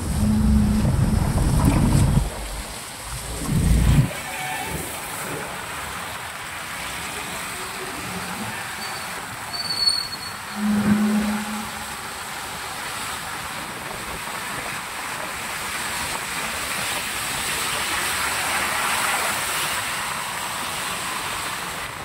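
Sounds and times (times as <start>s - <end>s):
heavy rain: 0.0s - 22.0s
tyres hissing on wet road: 0.0s - 22.0s.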